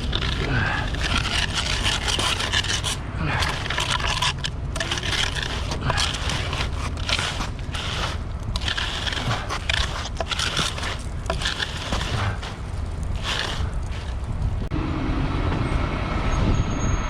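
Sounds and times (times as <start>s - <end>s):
tools scraping wet concrete: 0.0s - 14.7s.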